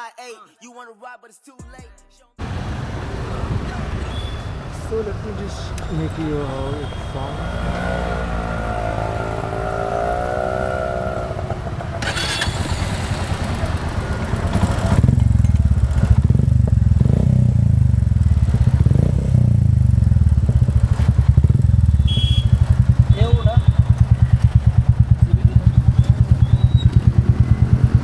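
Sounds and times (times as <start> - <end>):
motorcycle engine deep pulsing beat: 2.4 - 12.4, 13.0 - 28.0.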